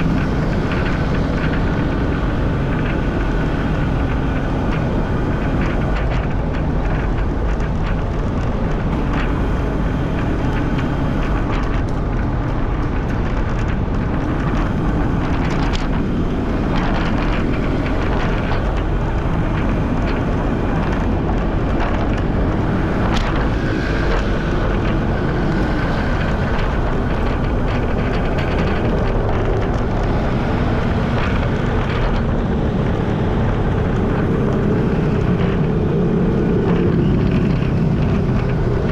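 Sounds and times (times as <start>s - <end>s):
passing motor traffic: 0.0s - 38.9s
wind rushing on microphone: 0.0s - 38.9s.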